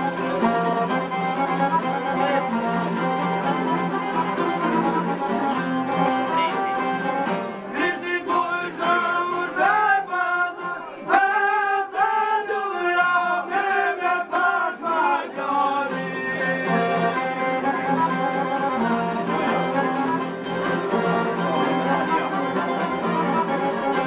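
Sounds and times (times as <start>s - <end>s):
plucked lutes: 0.0s - 11.4s, 15.6s - 24.0s
accordion: 0.0s - 24.0s.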